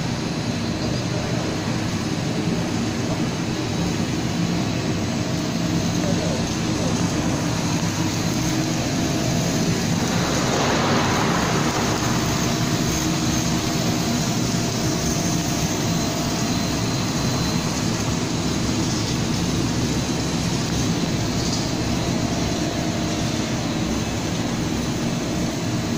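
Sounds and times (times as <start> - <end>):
machine hum and whir: 0.0 - 25.9.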